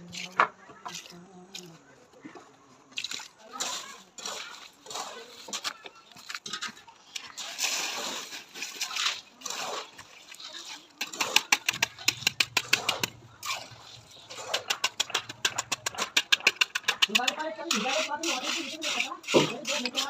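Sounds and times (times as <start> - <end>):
trowel scraping and slapping mortar: 3.0 - 20.0.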